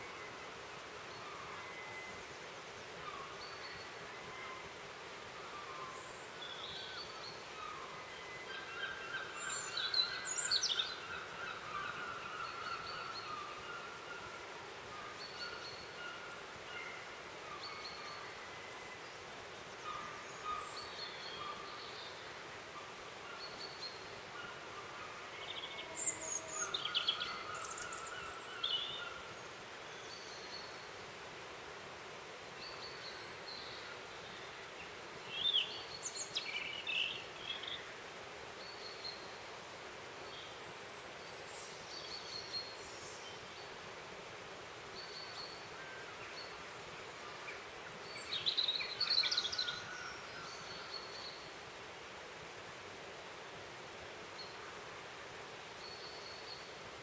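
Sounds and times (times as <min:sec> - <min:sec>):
songbirds calling and singing: 0:00.0 - 0:31.5, 0:32.2 - 0:57.0
steady background hiss: 0:00.0 - 0:57.0.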